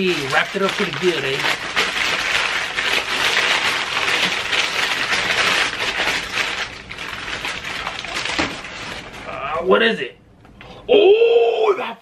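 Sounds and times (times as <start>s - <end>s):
packing paper crinkling: 0.0s - 9.7s.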